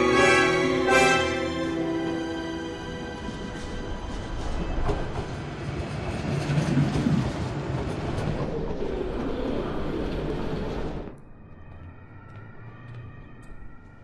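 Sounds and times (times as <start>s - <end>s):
train rumbling past: 0.0s - 11.8s.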